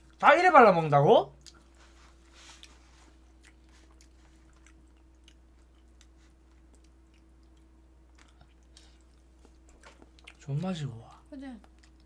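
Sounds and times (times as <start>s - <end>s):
low steady hum: 0.0s - 12.0s
chewing: 1.4s - 12.0s.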